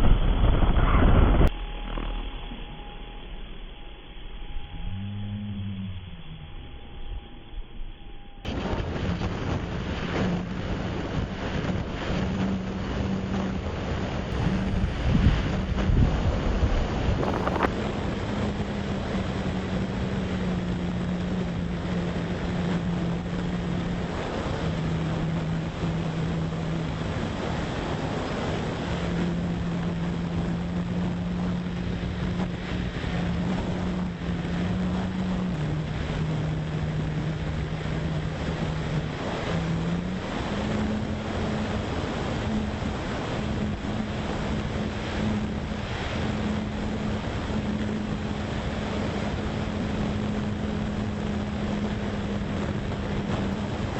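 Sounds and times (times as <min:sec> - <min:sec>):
wind noise on microphone: 0:00.0 - 0:02.8, 0:08.4 - 0:53.9
model airplane motor drone: 0:01.2 - 0:08.2, 0:09.1 - 0:53.9.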